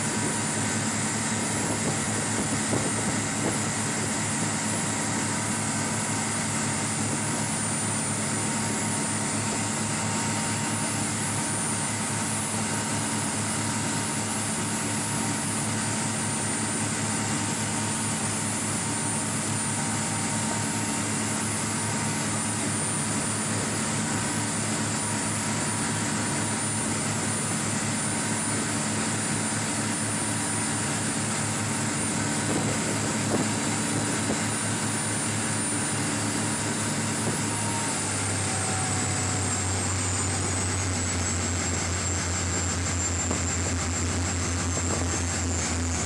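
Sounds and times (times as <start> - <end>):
speedboat engine droning: 0.0 - 46.0.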